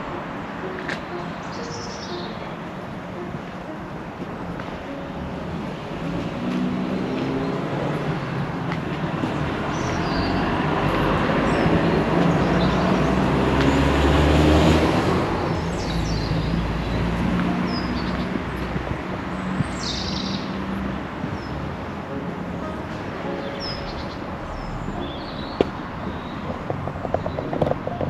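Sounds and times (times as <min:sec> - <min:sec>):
birds chirping: 0:00.0 - 0:28.0
motor vehicle passing by: 0:04.9 - 0:28.0.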